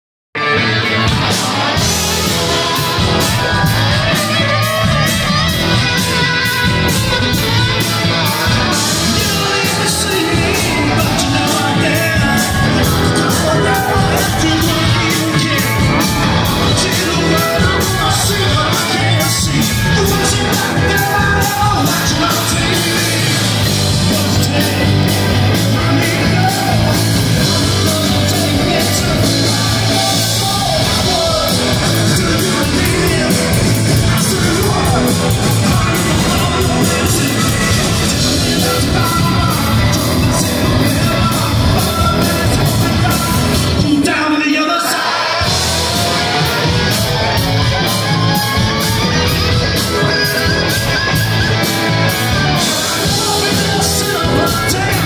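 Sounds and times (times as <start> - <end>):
loud live rock band: 0.4 - 55.0
man singing into a microphone: 0.4 - 55.0.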